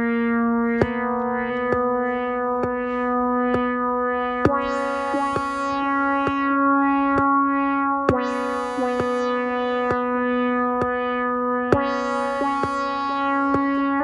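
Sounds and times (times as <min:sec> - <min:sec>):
sustained synth note: 0:00.0 - 0:14.0.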